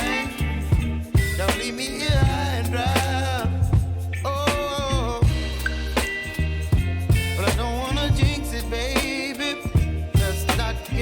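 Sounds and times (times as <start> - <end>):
bass line: 0.0 - 11.0
drum beat: 0.0 - 11.0
pop song with singer: 0.0 - 11.0.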